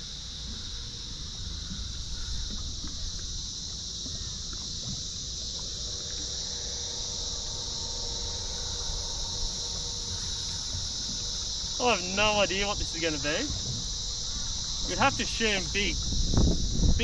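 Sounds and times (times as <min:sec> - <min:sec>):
faint steady whine: 0:00.0 - 0:17.0
high-pitched insect chorus: 0:00.0 - 0:17.0
wind and water rumble: 0:00.0 - 0:17.0.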